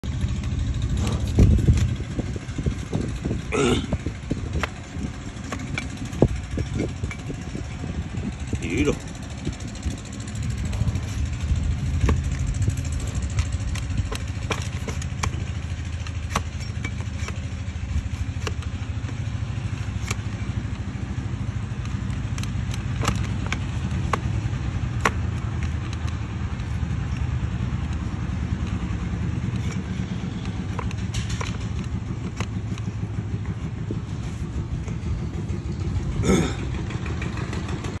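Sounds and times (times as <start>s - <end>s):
low motor rumble: 0.0s - 38.0s
hoof blade shaving hoof: 0.1s - 38.0s
sharp cuts and knocks: 0.4s - 38.0s.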